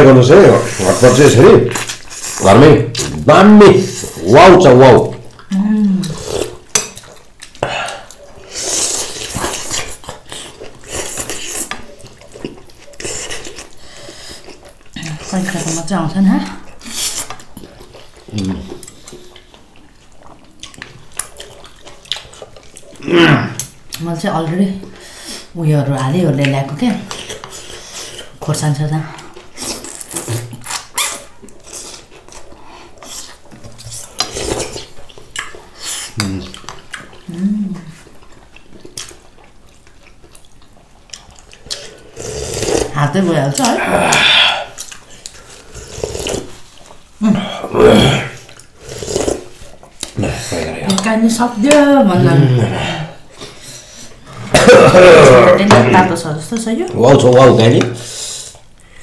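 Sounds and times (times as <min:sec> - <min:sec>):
eating noises: 0:00.0 - 0:59.0.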